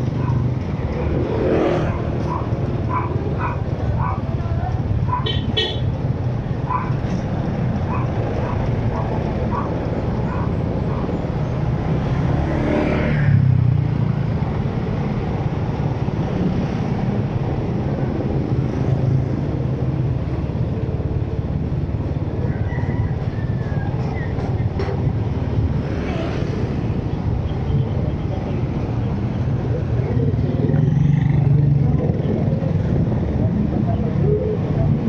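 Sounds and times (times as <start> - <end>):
vehicle engine and road rumble: 0.0 - 35.0.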